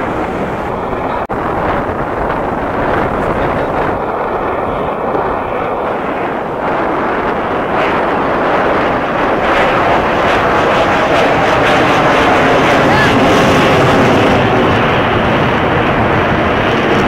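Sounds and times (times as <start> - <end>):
jet roar overhead: 0.0 - 17.0.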